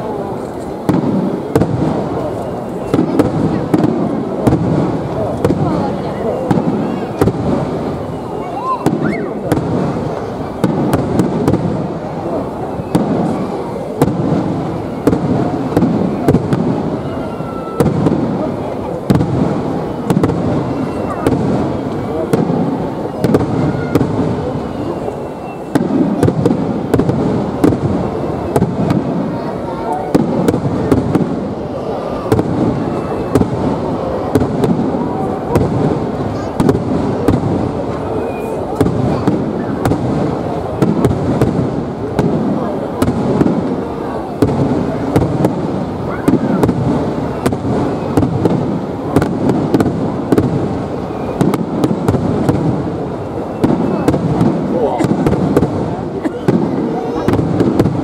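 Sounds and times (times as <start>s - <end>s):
fireworks cracks and bangs: 0.0s - 58.0s
rumbling haze of noise: 0.0s - 58.0s.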